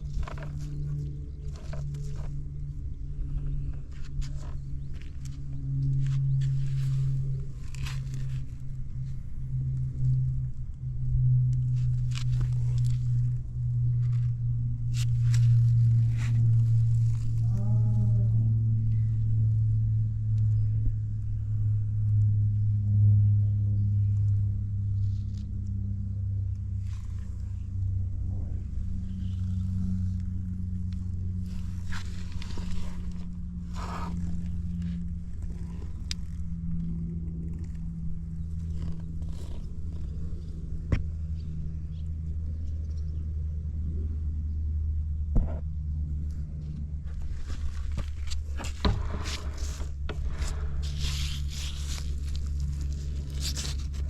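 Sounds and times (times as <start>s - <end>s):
scooter engine droning: 0.0s - 54.0s.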